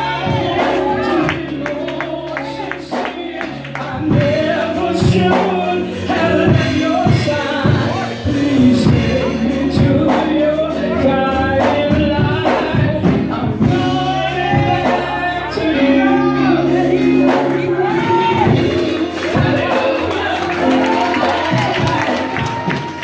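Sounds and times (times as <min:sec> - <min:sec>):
gospel song over sound system: 0:00.0 - 0:23.0.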